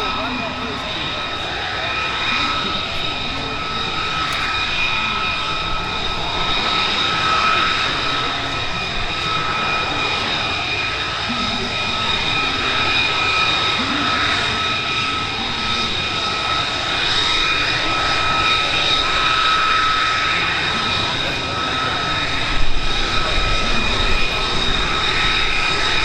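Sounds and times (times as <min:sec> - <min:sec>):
aircraft engine whine: 0:00.0 - 0:26.0.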